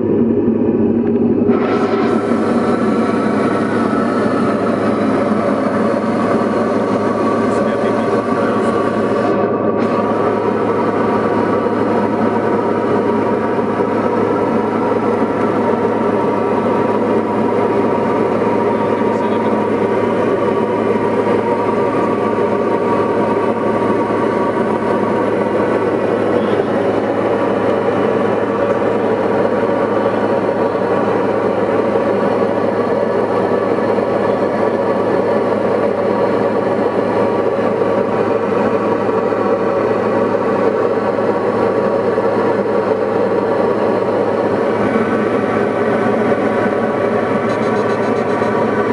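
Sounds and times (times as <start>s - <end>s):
light aircraft engine and propeller: 0.0s - 48.9s.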